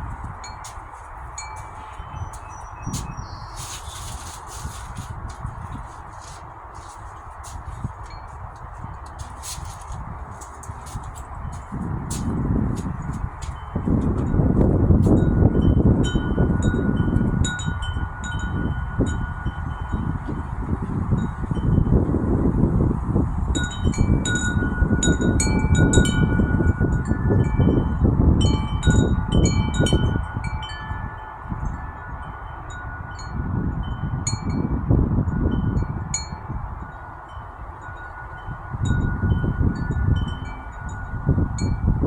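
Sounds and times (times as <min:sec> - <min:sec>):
wind rumbling on microphone: 0:00.0 - 0:42.0
wind chimes ringing: 0:00.1 - 0:20.5, 0:23.6 - 0:34.6, 0:35.5 - 0:42.0.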